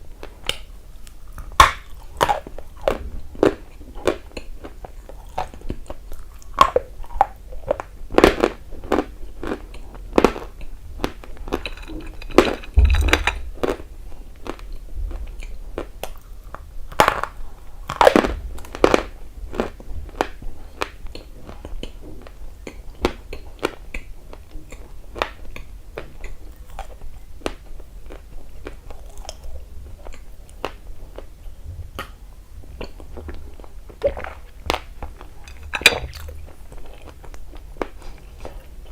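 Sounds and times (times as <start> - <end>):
person crunching dry food: 0.2 - 31.3, 32.8 - 38.9.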